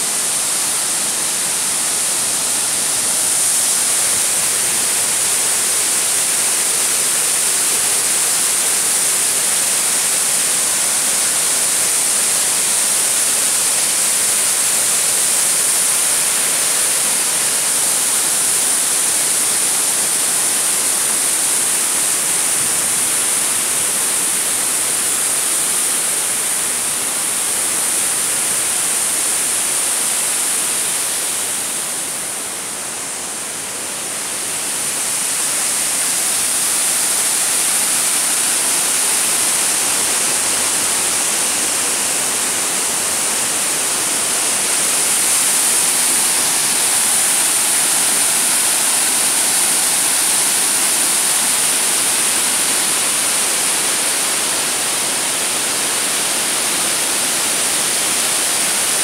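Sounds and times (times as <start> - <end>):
river water rushing over weir: 0.0 - 59.0.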